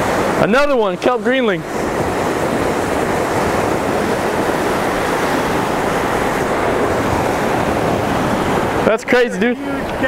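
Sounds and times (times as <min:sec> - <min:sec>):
ocean surf breaking over rocks: 0:00.0 - 0:10.0.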